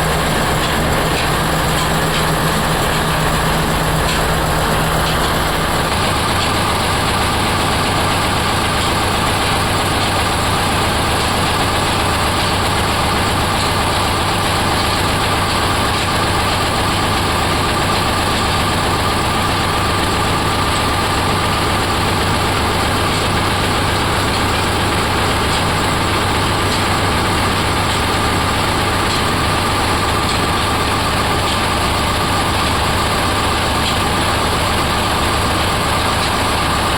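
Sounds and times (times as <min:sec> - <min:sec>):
oil expeller machine drone: 0:00.0 - 0:36.9.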